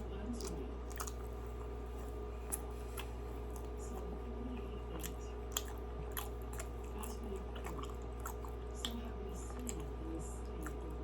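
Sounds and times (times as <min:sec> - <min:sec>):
steady low hum: 0:00.0 - 0:11.0
wet chewing mouth clicks: 0:00.3 - 0:11.0.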